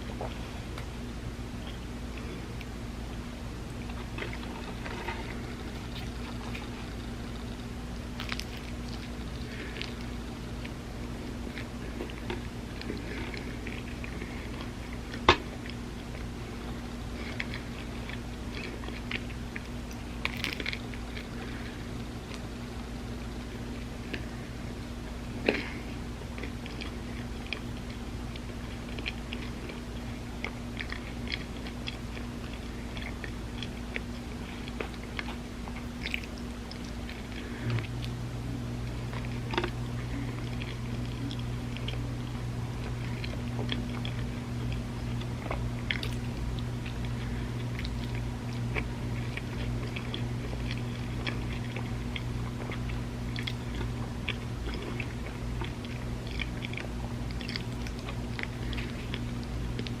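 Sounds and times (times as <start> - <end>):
person chewing crunchy food: 0.0 - 60.0
steady low hum: 0.0 - 60.0.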